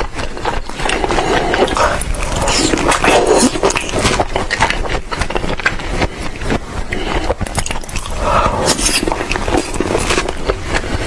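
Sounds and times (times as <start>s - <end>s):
wet mouth clicks: 0.0s - 10.6s
man chewing wetly: 0.0s - 11.0s.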